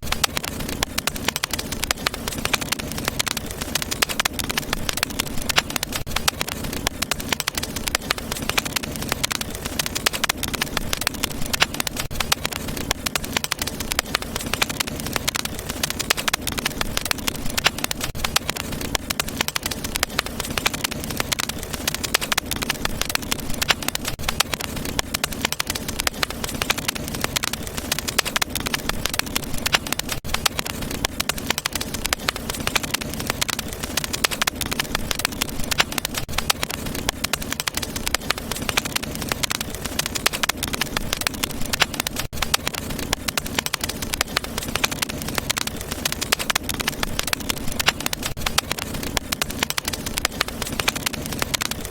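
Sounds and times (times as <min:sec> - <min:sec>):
fireplace fire crackling: 0:00.0 - 0:51.9
low rumble of flame: 0:00.0 - 0:51.9.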